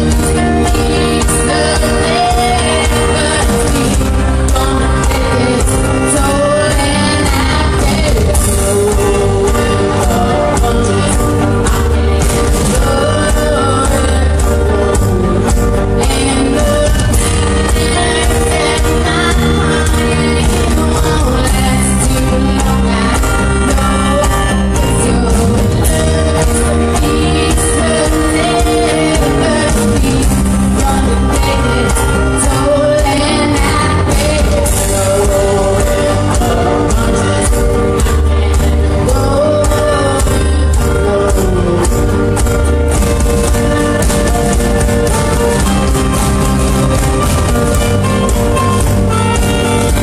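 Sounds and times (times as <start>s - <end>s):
lead vocal singing: 0.0s - 47.8s
band playing a song: 0.0s - 50.0s
loud bass and drums: 0.0s - 50.0s.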